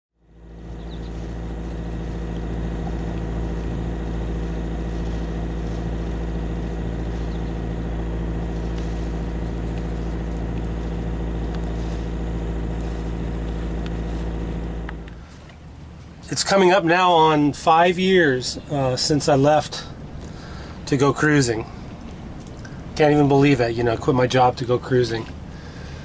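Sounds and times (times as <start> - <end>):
boat engine droning: 0.2 - 26.0.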